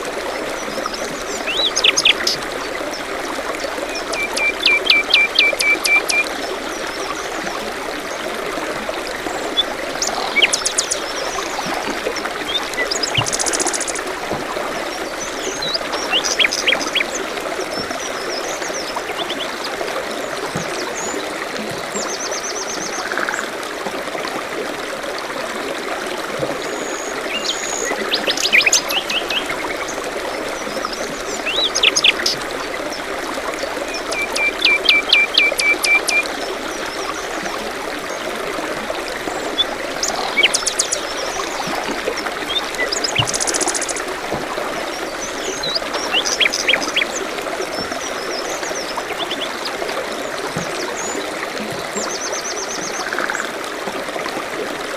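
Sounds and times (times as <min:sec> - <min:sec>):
songbirds chirping: 0:00.0 - 0:08.4, 0:09.2 - 0:23.2, 0:26.6 - 0:53.5
forest stream trickling: 0:00.0 - 0:54.9.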